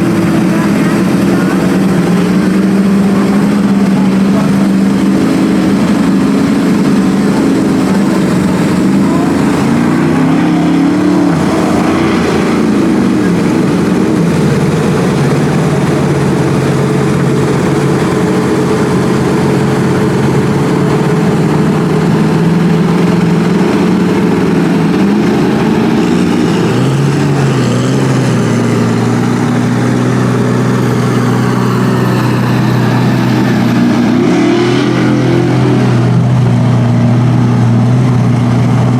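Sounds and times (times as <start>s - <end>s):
truck engine running hard: 0.0s - 38.9s.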